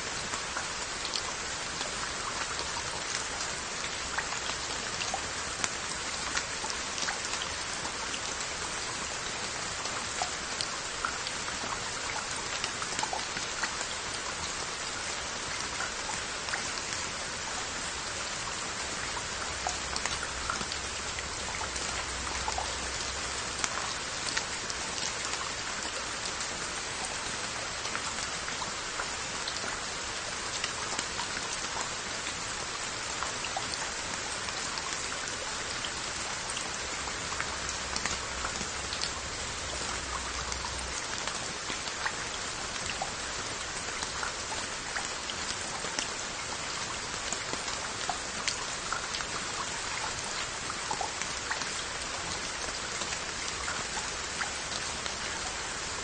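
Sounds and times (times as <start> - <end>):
rain on earthenware pots: 0.0 - 56.0.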